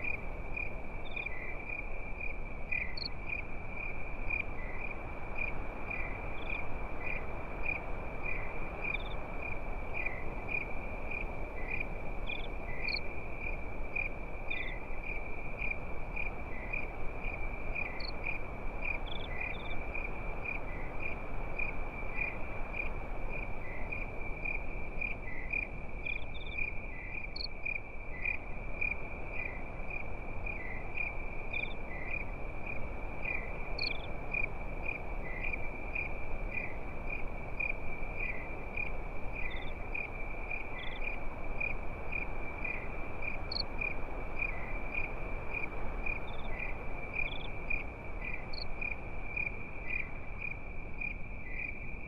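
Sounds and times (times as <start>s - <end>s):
crickets chirping: 0.0s - 52.0s.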